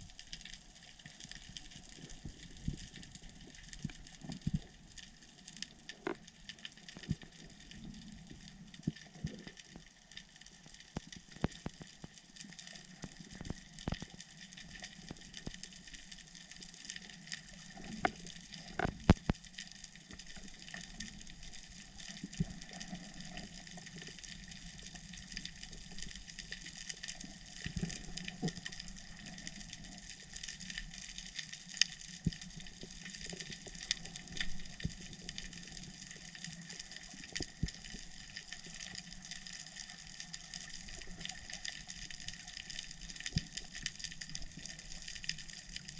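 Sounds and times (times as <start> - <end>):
sharp clicks and crackles: 0.0 - 45.9.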